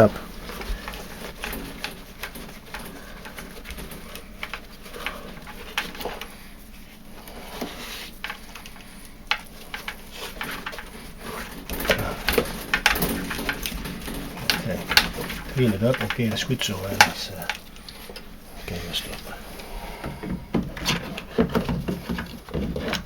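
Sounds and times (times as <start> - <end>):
plastic parts scraping and rubbing: 0.0 - 23.0.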